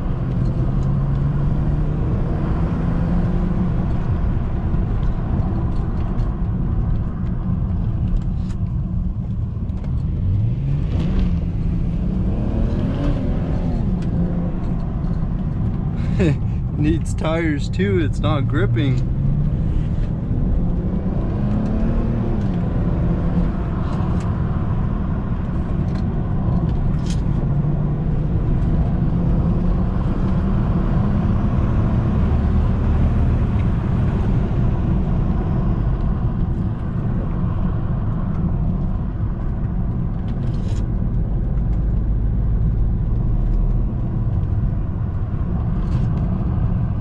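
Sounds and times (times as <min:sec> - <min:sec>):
car engine drone: 0:00.0 - 0:47.0
road rumble: 0:00.0 - 0:47.0.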